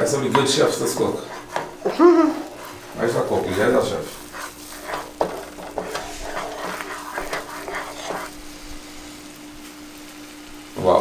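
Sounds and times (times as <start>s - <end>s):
butter sizzling: 0.0s - 11.0s
wooden spatula scraping a pan: 0.1s - 9.2s.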